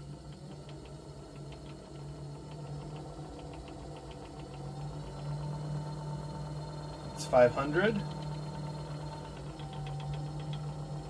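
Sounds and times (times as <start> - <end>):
lathe motor hum: 0.0 - 11.0.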